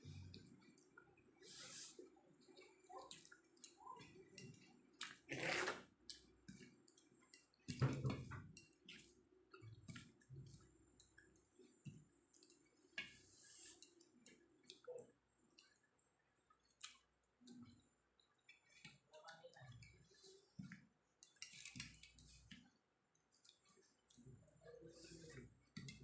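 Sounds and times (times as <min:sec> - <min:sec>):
soft chewing: 0:00.0 - 0:26.0.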